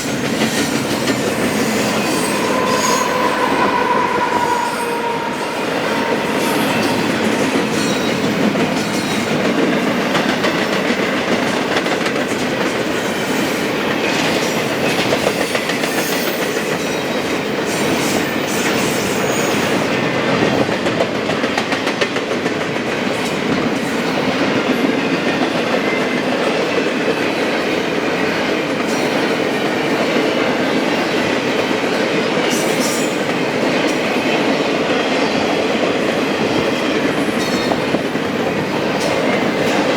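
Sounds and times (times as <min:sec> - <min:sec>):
train cars rumbling and rattling: 0:00.0 - 0:39.9.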